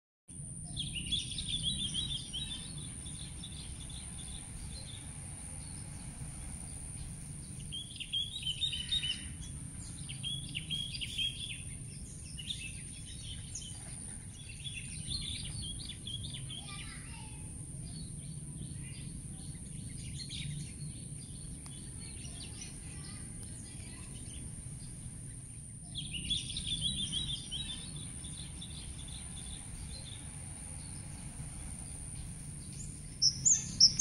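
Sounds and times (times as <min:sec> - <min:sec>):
low background rumble: 0:00.4 - 0:34.0
small birds twittering: 0:00.4 - 0:34.0.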